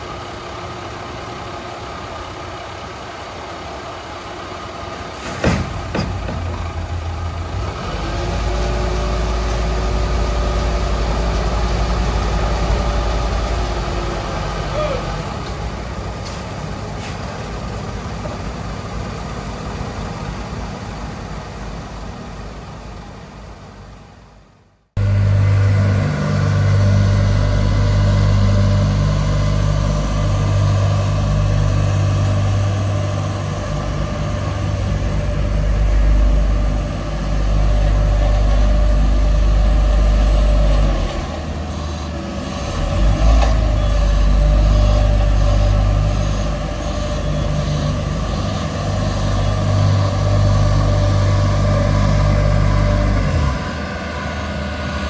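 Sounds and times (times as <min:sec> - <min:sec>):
asphalt roller diesel humming: 0:00.0 - 0:55.0.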